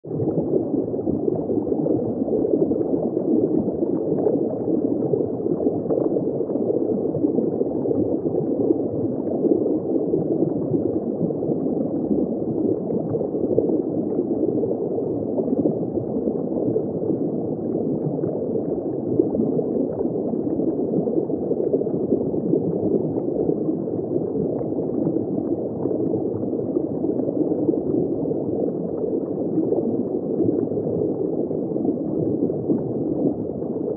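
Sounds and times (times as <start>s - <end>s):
underwater bubbling and gurgling: 0.0s - 33.9s.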